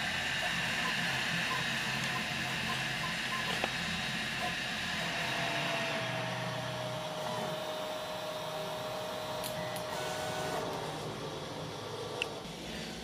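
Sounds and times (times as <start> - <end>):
printer head whine: 0.0 - 12.6
cooling fans hissing: 0.0 - 13.0.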